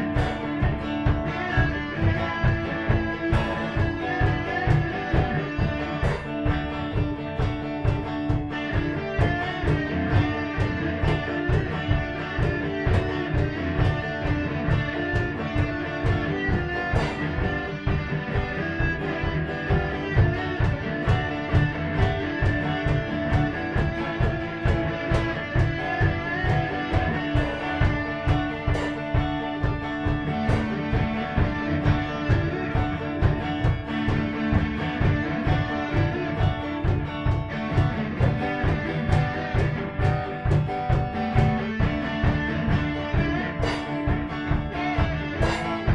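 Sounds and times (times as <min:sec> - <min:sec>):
drum kit beat: 0:00.0 - 0:45.9
electric guitars: 0:00.0 - 0:45.9.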